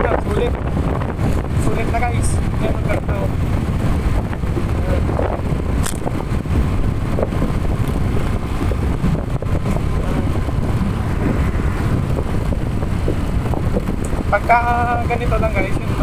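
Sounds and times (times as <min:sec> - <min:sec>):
wind and road rumble: 0:00.0 - 0:16.0.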